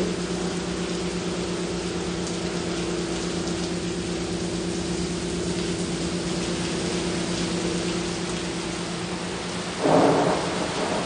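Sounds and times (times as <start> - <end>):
constant low hum: 0.0 - 11.0
heavy rain: 0.0 - 11.0.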